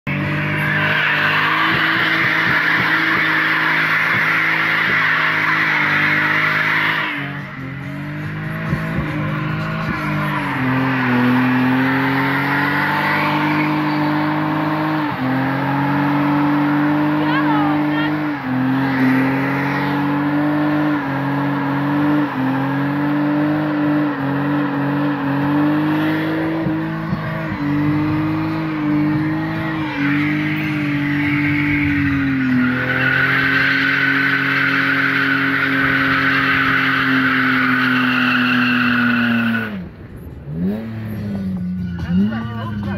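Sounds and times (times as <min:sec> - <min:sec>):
car engine at high revs: 0:00.0 - 0:42.9
tyres screeching: 0:00.1 - 0:39.8.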